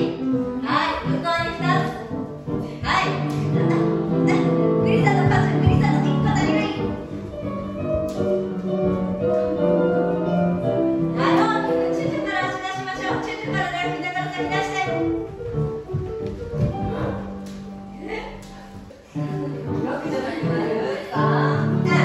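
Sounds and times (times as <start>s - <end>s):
ballet class music: 0.0s - 22.0s.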